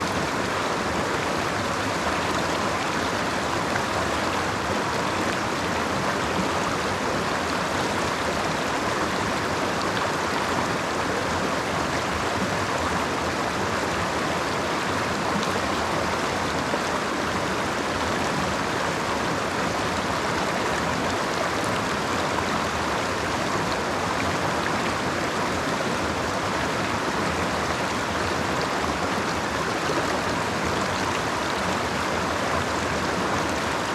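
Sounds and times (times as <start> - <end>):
creek water flowing: 0.0 - 33.9.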